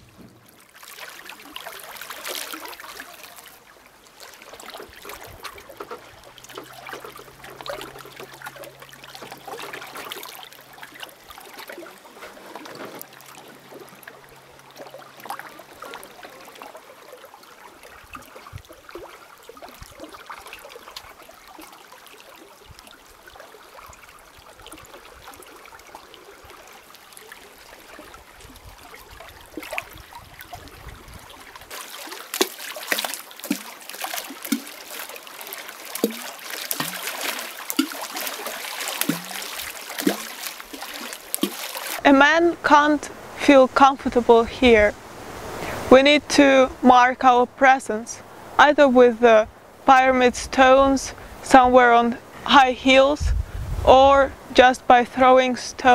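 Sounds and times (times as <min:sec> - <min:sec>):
water lapping against rocks: 0:00.0 - 0:55.9.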